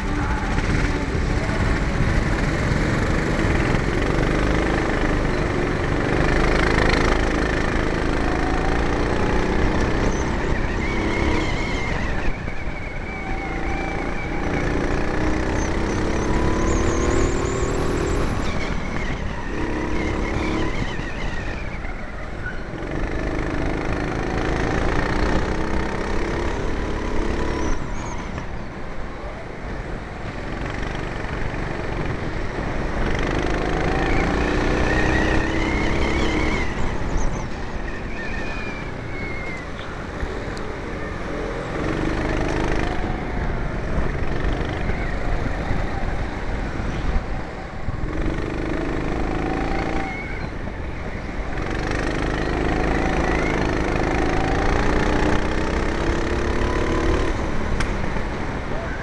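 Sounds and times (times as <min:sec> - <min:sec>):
kart engines revving: 0:00.0 - 0:59.0.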